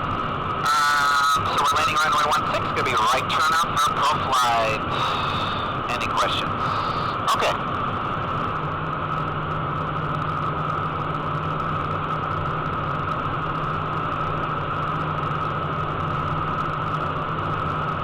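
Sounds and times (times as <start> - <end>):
jet engine whine and hum: 0.0 - 18.0.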